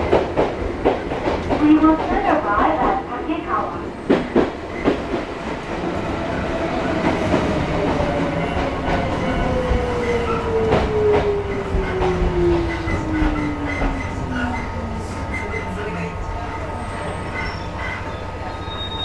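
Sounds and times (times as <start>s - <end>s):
rail-joint clicks: 0.0s - 19.0s
wheel and rail rumble: 0.0s - 19.0s.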